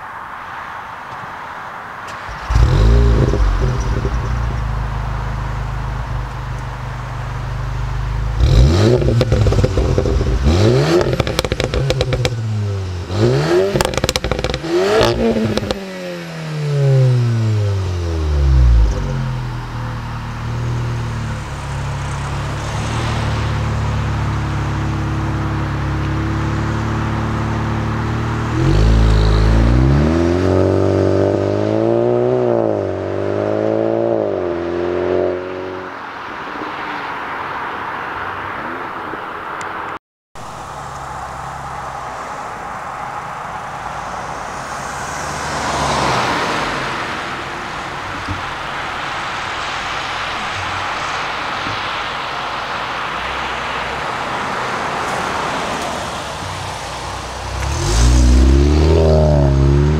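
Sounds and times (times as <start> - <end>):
car engine idling and revving: 2.0 - 36.3, 39.7 - 59.9
car passing by: 8.4 - 59.9.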